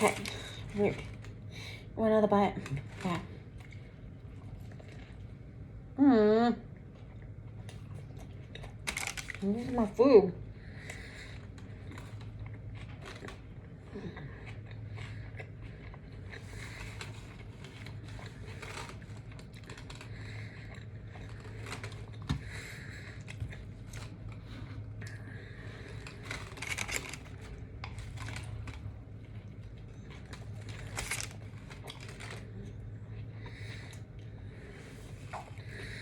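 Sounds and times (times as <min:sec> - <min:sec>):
steady low hum: 0:00.0 - 0:36.0
person chewing sandwich: 0:02.8 - 0:05.9, 0:06.7 - 0:09.5, 0:10.5 - 0:36.0.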